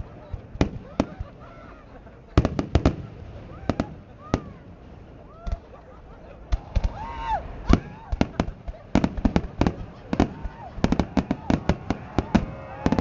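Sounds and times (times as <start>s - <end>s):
faint voices: 0.0s - 13.0s
fireworks bangs: 0.0s - 13.0s.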